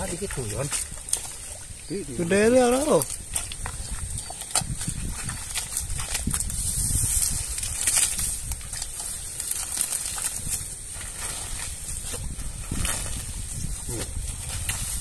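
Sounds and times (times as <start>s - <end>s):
grass rustling: 0.0s - 15.0s
mud squelching: 0.0s - 15.0s.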